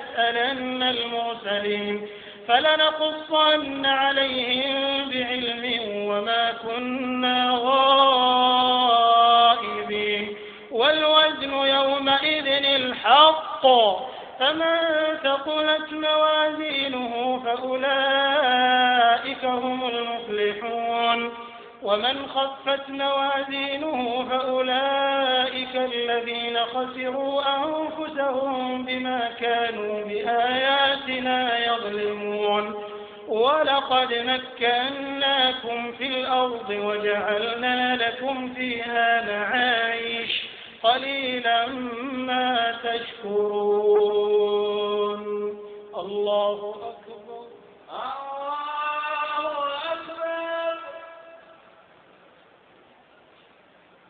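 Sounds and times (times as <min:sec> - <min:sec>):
man chanting melodic recitation: 0:00.0 - 0:51.6.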